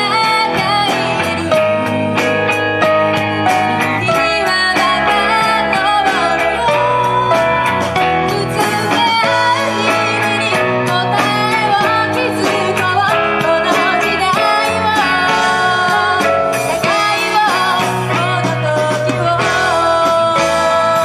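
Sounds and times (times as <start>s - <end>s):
live band playing pop-rock: 0.0s - 21.0s
woman singing: 0.0s - 21.0s.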